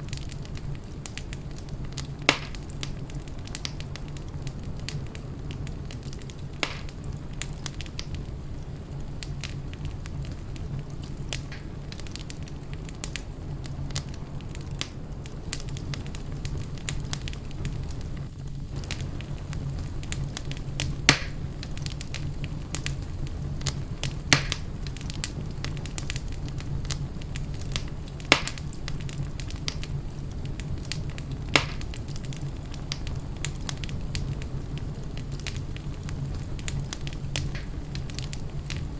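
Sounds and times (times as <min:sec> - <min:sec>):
sharp fire pops: 0:00.0 - 0:38.9
wood fire crackling: 0:00.0 - 0:38.9.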